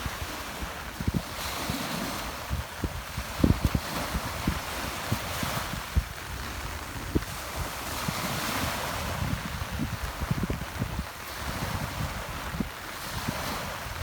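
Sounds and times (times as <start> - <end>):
rain: 0.0 - 14.0
sea surf rushing: 0.0 - 14.0
wind thumping on microphone: 0.0 - 14.0.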